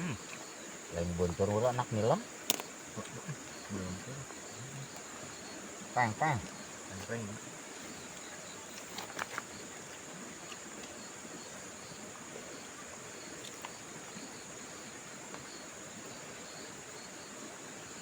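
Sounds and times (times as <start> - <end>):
insects chirring: 0.0 - 18.0
soft background hiss: 0.0 - 18.0.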